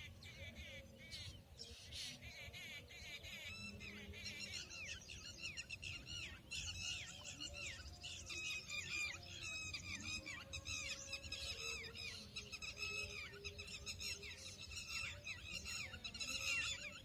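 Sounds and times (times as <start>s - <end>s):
birds chirping and singing: 0.0s - 17.0s.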